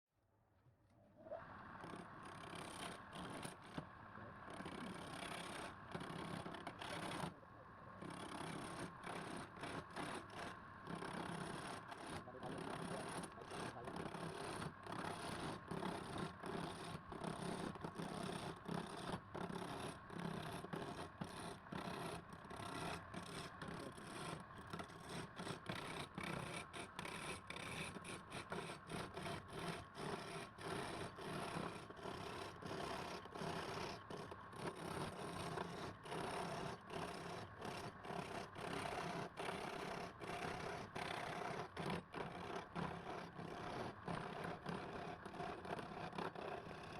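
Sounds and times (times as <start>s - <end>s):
rasping rub strokes: 1.8s - 3.8s, 4.5s - 7.3s, 8.0s - 46.9s.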